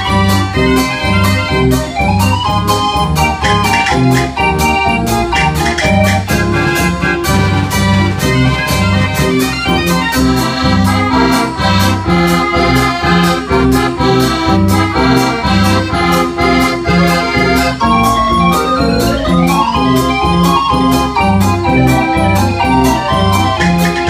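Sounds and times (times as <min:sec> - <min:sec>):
drum beats: 0:00.0 - 0:24.0
street organ melody: 0:00.0 - 0:24.0.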